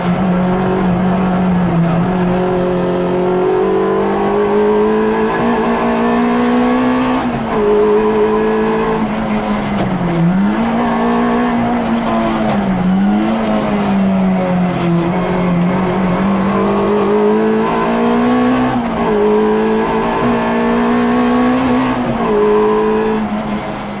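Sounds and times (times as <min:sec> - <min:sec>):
car engine revving high: 0:00.0 - 0:24.0.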